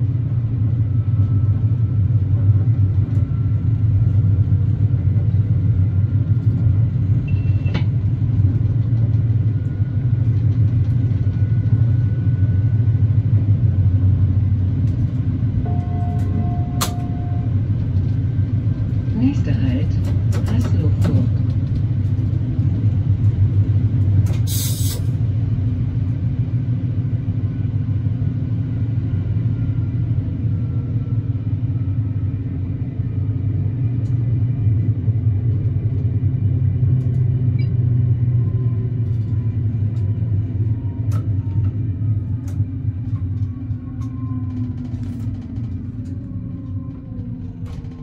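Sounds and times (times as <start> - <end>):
train engine and track rumble: 0.0 - 48.0.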